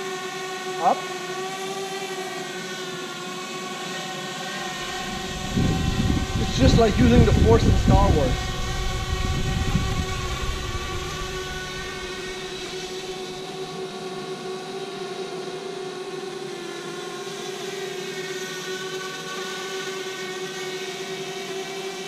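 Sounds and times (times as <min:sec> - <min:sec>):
drone propellers buzzing: 0:00.0 - 0:21.8.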